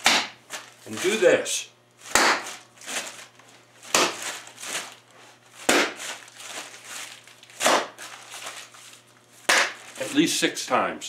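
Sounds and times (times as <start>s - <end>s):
plastic bag crinkling: 0.5s - 1.4s, 2.0s - 10.5s.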